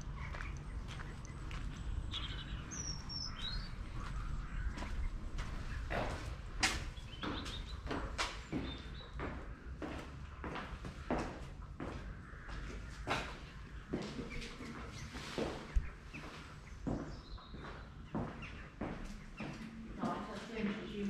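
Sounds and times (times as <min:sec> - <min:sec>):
footsteps on stone floor: 0:00.0 - 0:21.0
small birds chirping: 0:00.0 - 0:21.0.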